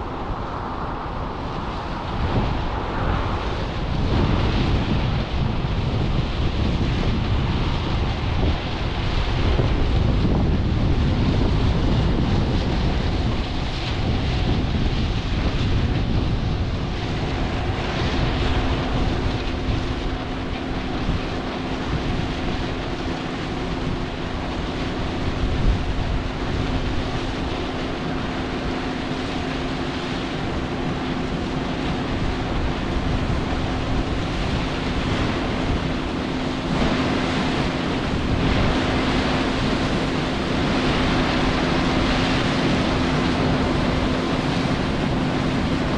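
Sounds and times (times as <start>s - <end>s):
combine diesel engine humming: 0.0s - 45.9s
wind buffeting microphone: 0.0s - 45.9s.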